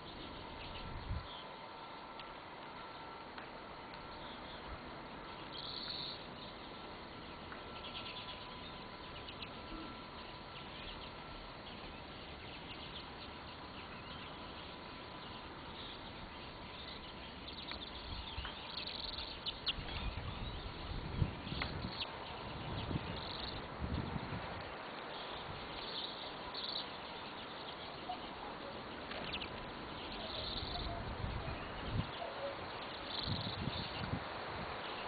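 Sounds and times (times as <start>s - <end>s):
small birds chirping: 0.0s - 35.0s
steady background hiss: 0.0s - 35.0s.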